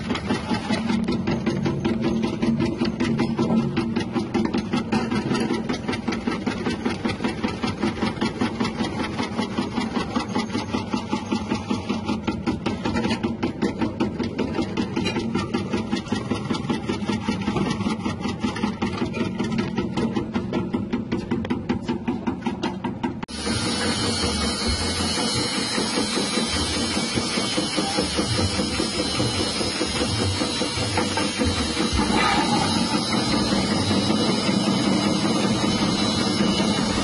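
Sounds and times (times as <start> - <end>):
slicing machine motor clattering: 0.0 - 37.0.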